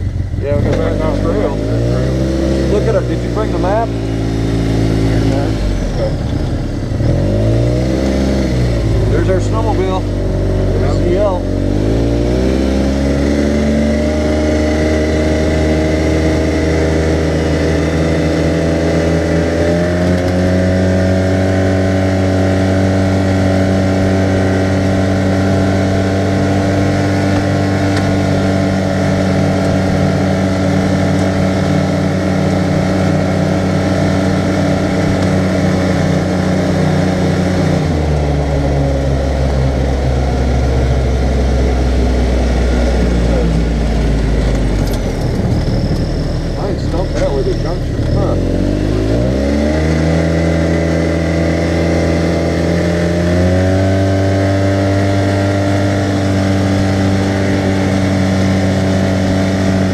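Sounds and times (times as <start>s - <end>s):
utility vehicle engine running: 0.0s - 59.9s.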